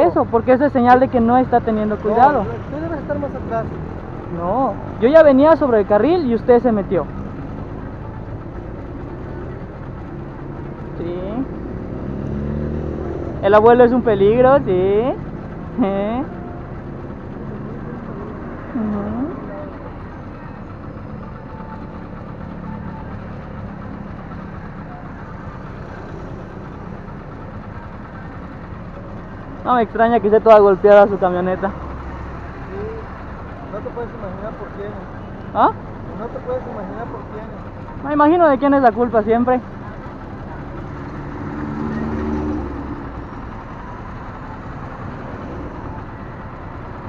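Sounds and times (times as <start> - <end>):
traffic noise: 0.0 - 47.0
vehicle engine idling: 0.0 - 47.0.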